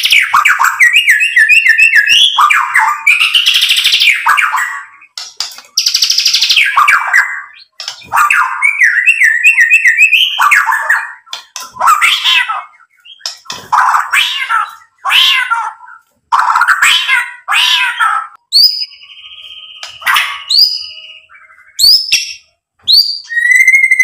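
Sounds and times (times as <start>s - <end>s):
bird singing: 0.0s - 24.0s.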